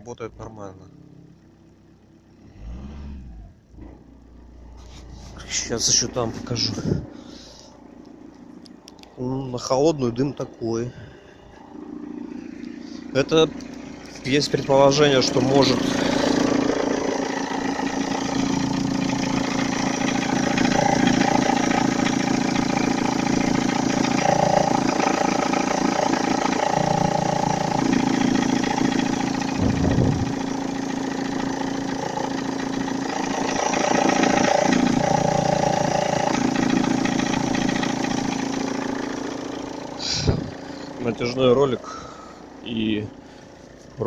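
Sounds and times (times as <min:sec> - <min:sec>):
diesel engine idling: 0:00.0 - 0:44.0
engine knocking and rustling: 0:01.3 - 0:44.0.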